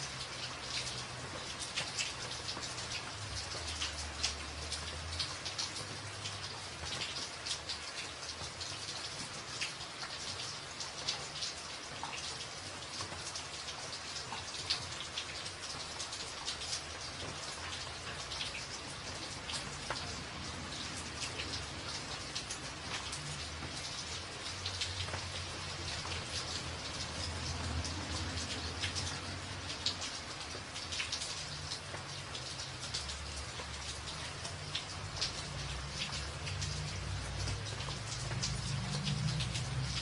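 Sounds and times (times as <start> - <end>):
rain pattering on a tin roof: 0.0 - 40.0.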